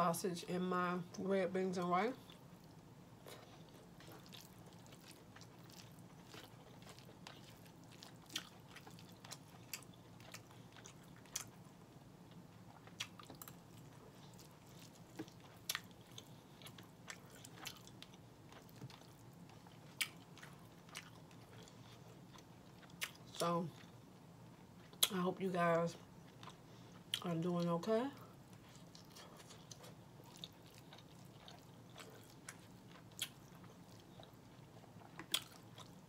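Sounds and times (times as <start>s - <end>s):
person chewing food: 2.2s - 25.1s, 26.1s - 27.3s, 28.2s - 36.0s.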